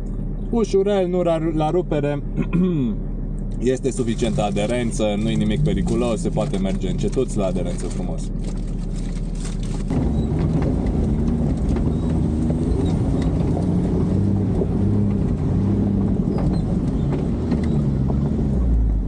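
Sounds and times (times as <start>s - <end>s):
engine pulling at low speed: 0.0s - 19.0s.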